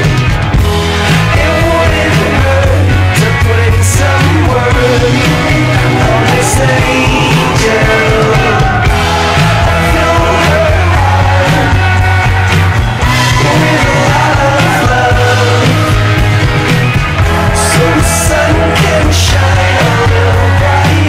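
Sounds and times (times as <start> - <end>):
rock band jamming: 0.0 - 21.0
steady bass line: 0.0 - 21.0.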